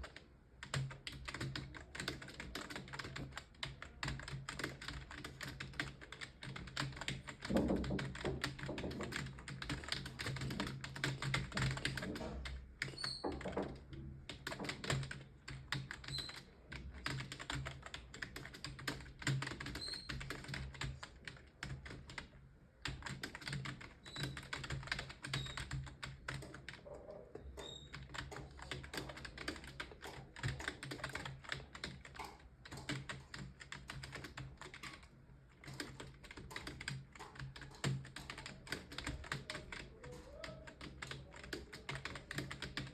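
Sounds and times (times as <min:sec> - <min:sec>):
computer keyboard typing: 0:00.0 - 0:42.9.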